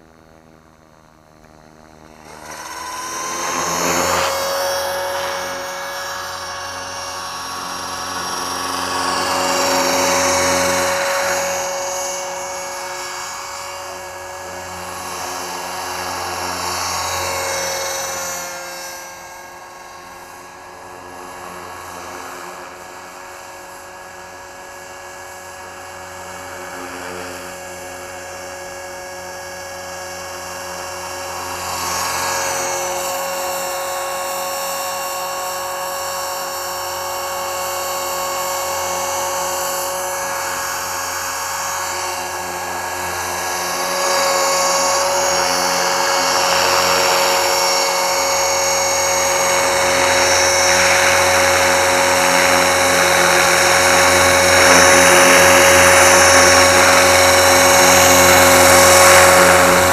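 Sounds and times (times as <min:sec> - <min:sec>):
rc helicopter motor whine: 0:00.0 - 0:59.9.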